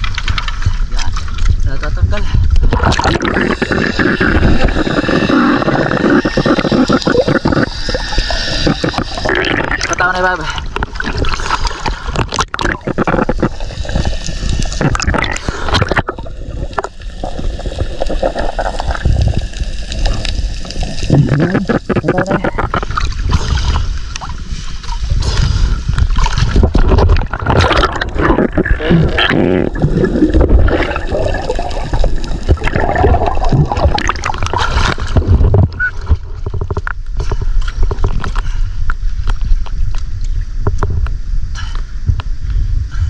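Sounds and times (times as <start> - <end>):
muffled underwater rumble: 0.0 - 43.0
underwater gurgling: 0.0 - 43.0.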